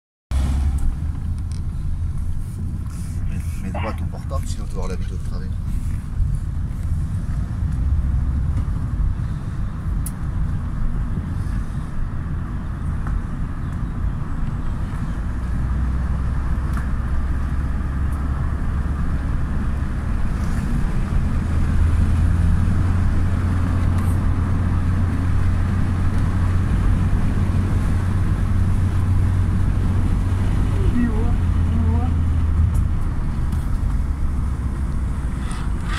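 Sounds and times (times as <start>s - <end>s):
car engine and tyre drone: 0.3s - 35.9s.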